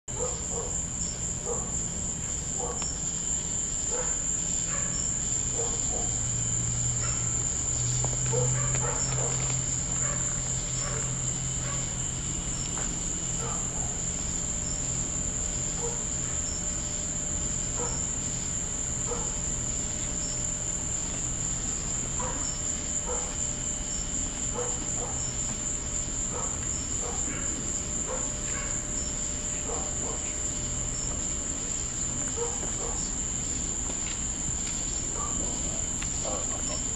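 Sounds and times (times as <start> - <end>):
night insects trilling: 0.1 - 36.9.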